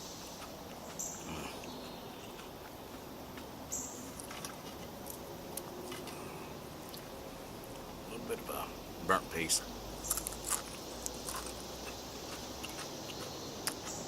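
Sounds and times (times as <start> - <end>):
insect chirps: 0.0 - 14.0
insect hiss: 0.0 - 14.0
person chewing: 0.2 - 7.9, 10.1 - 14.0.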